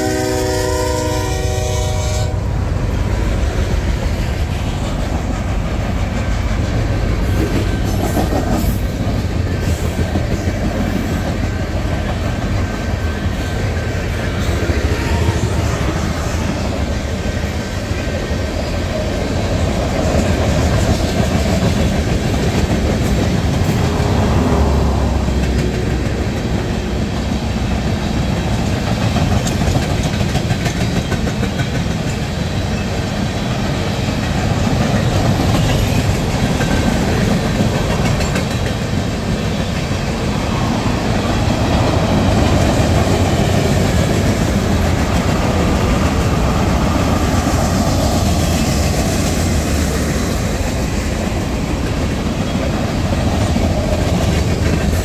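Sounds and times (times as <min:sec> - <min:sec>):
train rolling on steel rails: 0:00.0 - 0:55.0.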